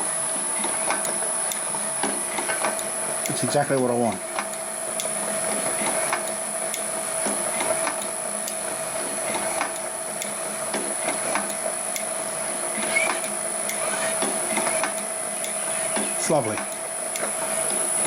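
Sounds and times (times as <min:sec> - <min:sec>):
can crusher motor whine: 0:00.0 - 0:18.0.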